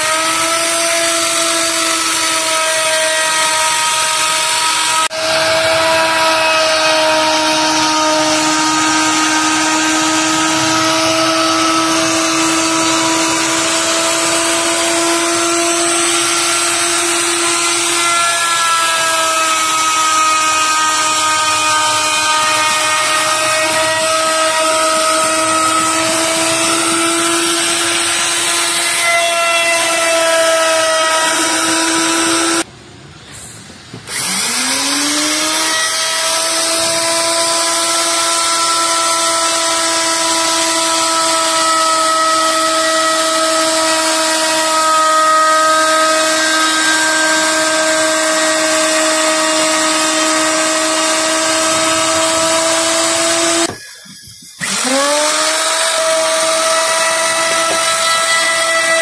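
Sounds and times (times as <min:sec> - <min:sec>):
electric router whining: 0:00.0 - 0:32.7, 0:34.1 - 0:59.0.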